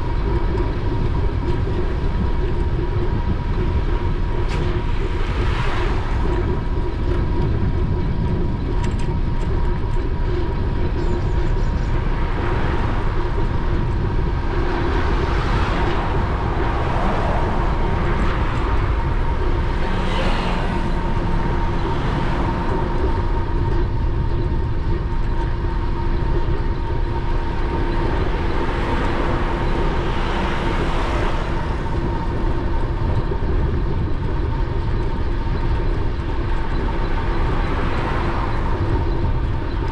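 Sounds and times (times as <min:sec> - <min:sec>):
steady thin whine: 0:00.0 - 0:39.9
traffic passing: 0:00.0 - 0:39.9
wind rumbling on microphone: 0:00.0 - 0:39.9.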